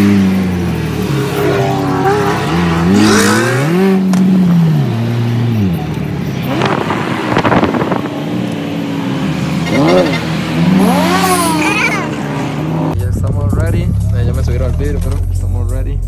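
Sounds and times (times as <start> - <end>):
sports car engines revving: 0.0 - 16.0.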